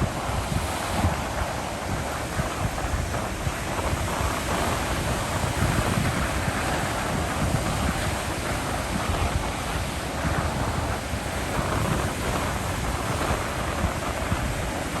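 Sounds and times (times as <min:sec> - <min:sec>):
ocean surf on a beach: 0:00.0 - 0:15.0
wind buffeting the microphone: 0:00.0 - 0:15.0.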